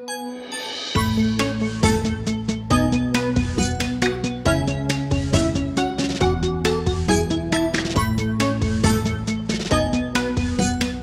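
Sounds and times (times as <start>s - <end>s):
music with beat and bass: 0.1s - 11.0s.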